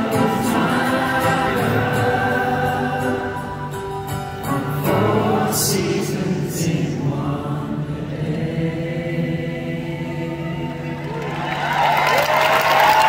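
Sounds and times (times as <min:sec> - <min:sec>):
acoustic guitars: 0:00.0 - 0:11.2
voices singing together: 0:00.0 - 0:11.3.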